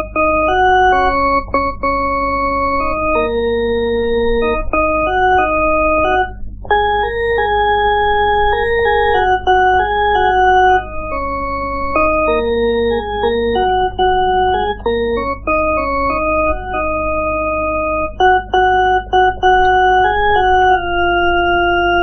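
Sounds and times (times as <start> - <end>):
electronic organ melody and chords: 0.0 - 22.0
steady low hum: 0.0 - 22.0.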